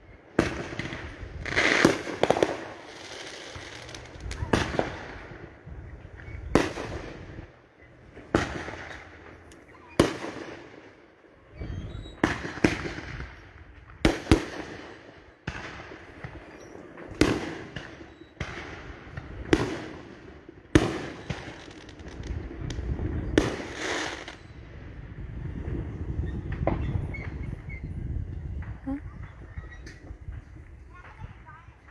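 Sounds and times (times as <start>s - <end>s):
fireworks bangs with crackling hiss: 0.0s - 31.9s.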